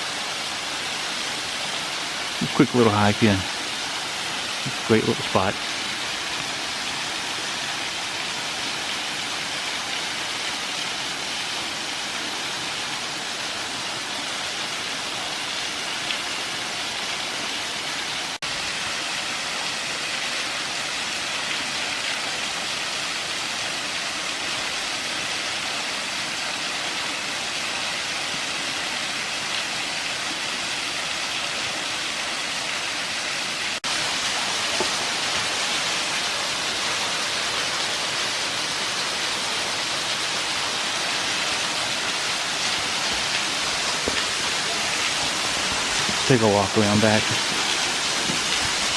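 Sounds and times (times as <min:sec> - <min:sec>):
waterfall pouring: 0:00.0 - 0:48.9.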